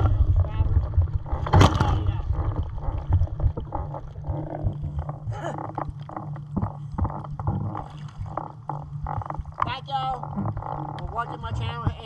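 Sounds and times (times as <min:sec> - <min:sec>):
pool water sloshing and lapping: 0:00.0 - 0:12.0
small water splashes and knocks: 0:00.0 - 0:12.0.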